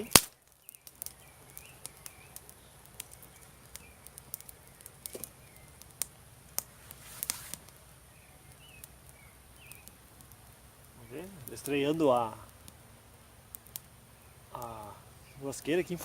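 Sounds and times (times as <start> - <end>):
birds chirping: 0.0 - 16.0
campfire crackling and popping: 0.0 - 16.0.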